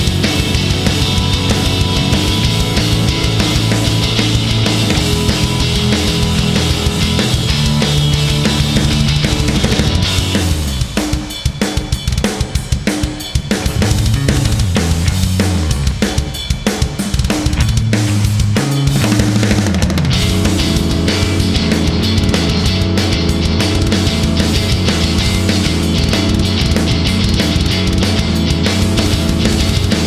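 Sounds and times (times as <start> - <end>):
heavy rock music: 0.0 - 30.0.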